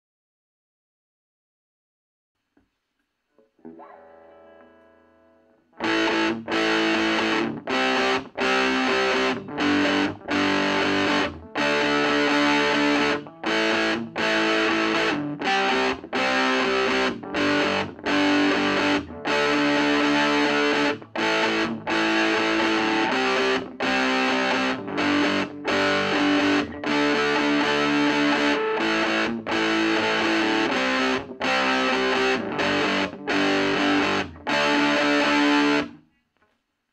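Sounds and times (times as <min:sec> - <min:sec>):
distorted electric guitar chords: 0:03.7 - 0:36.0.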